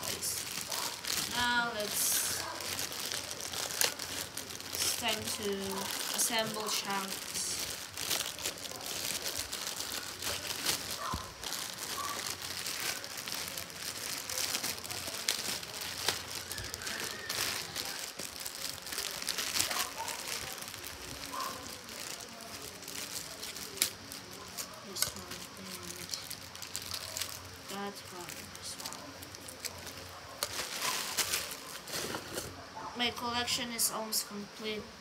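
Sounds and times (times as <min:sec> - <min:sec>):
plastic bags crinkling: 0:00.0 - 0:32.6.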